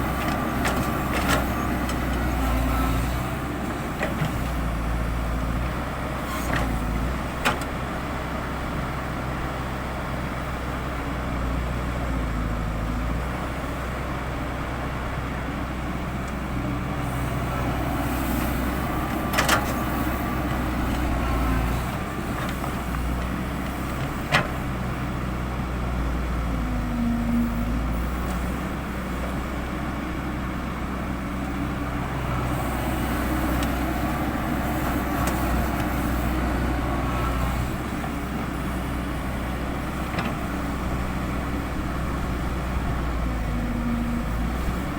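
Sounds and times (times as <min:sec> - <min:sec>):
diesel construction machinery running: 0:00.0 - 0:44.9.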